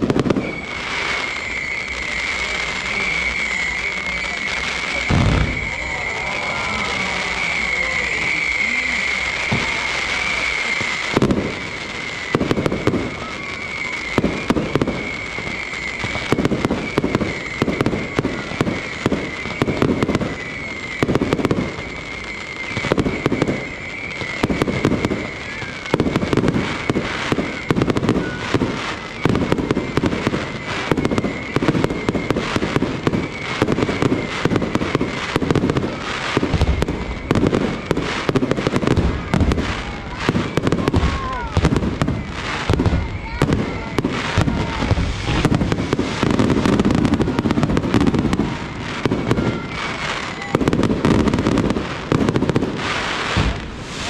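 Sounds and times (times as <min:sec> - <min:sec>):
firework shell bursts and crackle: 0:00.0 - 0:54.0
high wavering whistle: 0:00.2 - 0:50.1.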